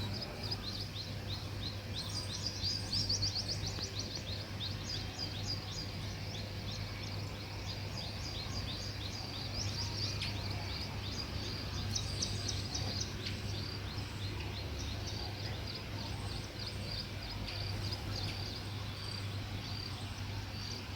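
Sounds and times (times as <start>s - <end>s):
small birds chirping: 0.0s - 20.9s
steady low hum: 0.0s - 20.9s.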